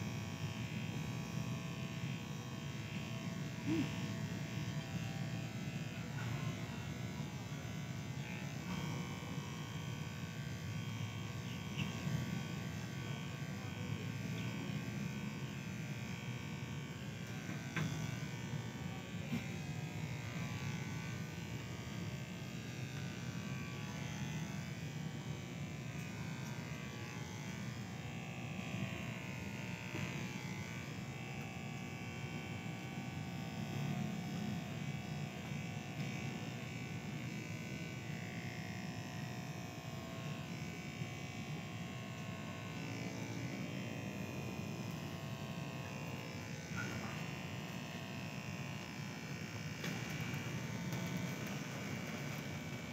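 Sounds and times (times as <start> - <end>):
electric hair clippers humming: 0.0 - 52.9.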